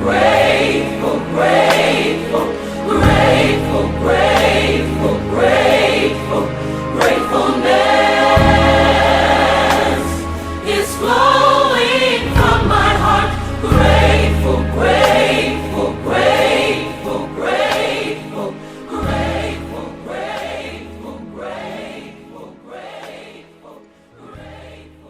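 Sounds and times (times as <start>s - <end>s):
bass and keyboard accompaniment: 0.0s - 23.6s
gospel choir singing: 0.0s - 25.0s.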